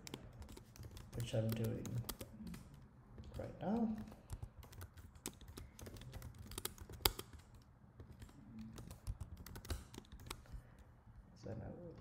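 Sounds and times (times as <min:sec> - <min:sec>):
keyboard typing: 0:00.0 - 0:10.9.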